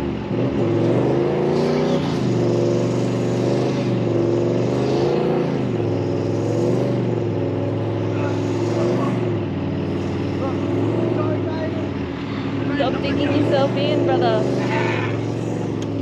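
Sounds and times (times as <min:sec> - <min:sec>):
vehicle engine revving under load: 0:00.0 - 0:16.0.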